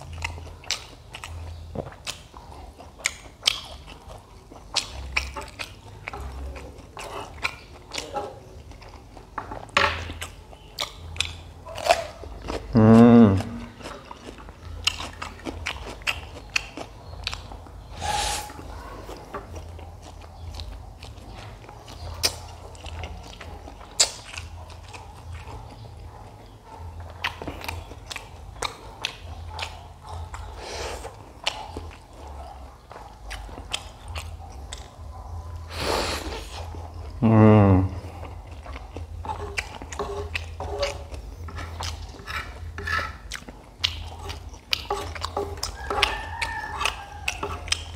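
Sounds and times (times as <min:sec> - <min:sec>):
chewing noodles with wet mouth clicks: 0:00.0 - 0:12.8, 0:13.6 - 0:17.9, 0:19.1 - 0:26.3, 0:27.0 - 0:35.7, 0:38.1 - 0:47.9.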